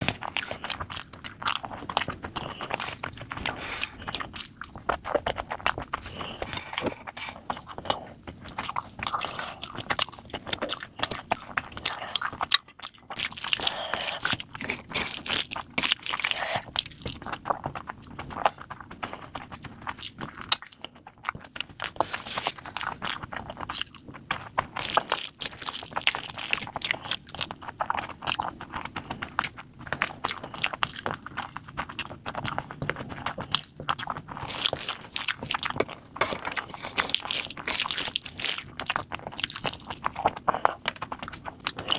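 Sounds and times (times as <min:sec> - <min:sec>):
wet chewing and smacking: 0:00.0 - 0:41.9.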